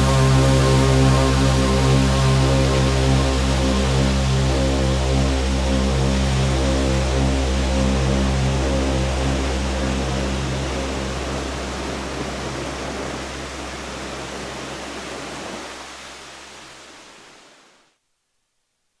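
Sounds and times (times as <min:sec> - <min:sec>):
low sustained music tones: 0:00.0 - 0:15.8
waterfall rushing: 0:00.0 - 0:17.7.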